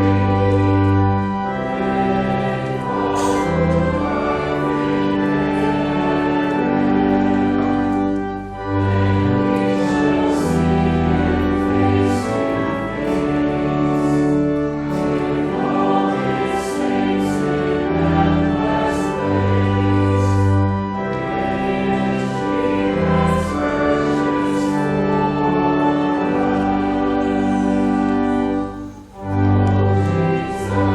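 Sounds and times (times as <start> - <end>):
organ playing: 0.0 - 30.9
voices singing a hymn: 0.0 - 30.9.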